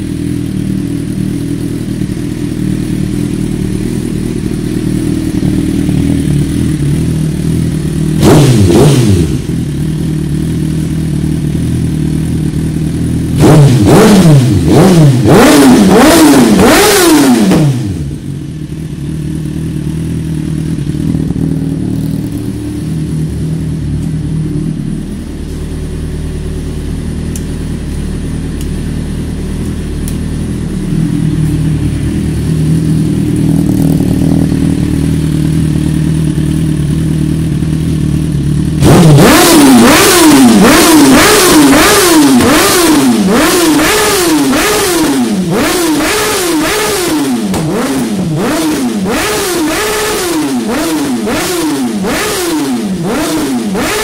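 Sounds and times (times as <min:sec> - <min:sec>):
motorcycle engine revving and idling: 0:00.0 - 0:54.0.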